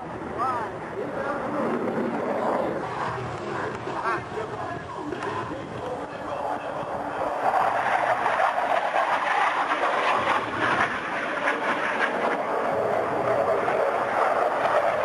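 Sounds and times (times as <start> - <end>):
jet engine roaring overhead: 0.0 - 15.0.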